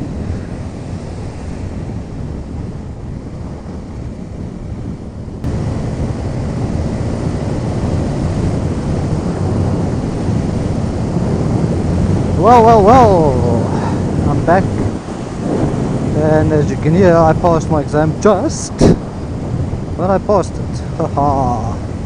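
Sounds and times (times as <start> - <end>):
wind buffeting a microphone: 0.0 - 22.0.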